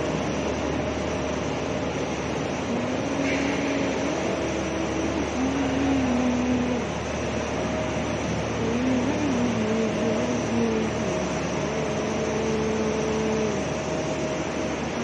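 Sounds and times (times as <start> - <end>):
factory machinery droning hum: 0.0 - 15.0.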